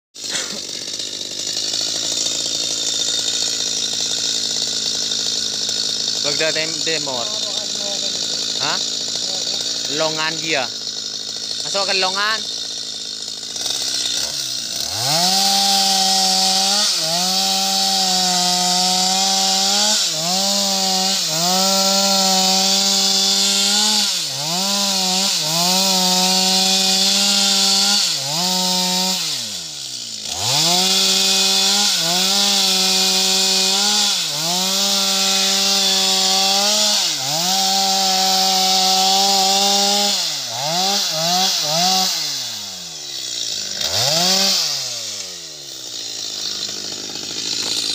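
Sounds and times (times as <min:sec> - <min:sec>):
chainsaw cutting wood: 0:00.2 - 0:47.9.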